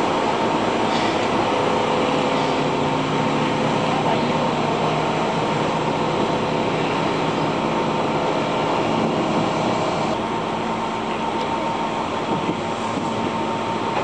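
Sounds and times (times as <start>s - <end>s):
tram wheels and motors rumbling: 0.0s - 14.0s.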